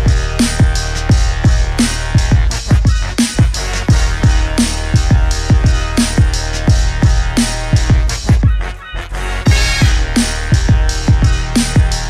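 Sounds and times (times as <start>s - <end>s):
deep kick drums: 0.0s - 8.6s, 9.5s - 12.0s
hi-hat hits: 0.0s - 8.6s, 9.5s - 12.0s
electronic dance music: 0.0s - 12.0s
steady bass line: 0.0s - 12.0s.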